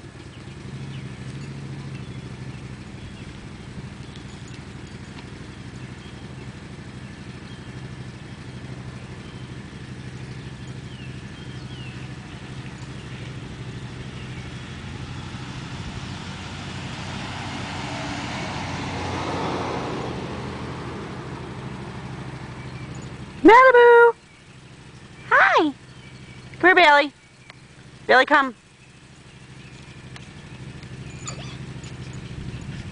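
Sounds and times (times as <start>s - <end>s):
vehicle passing: 0.0s - 32.9s.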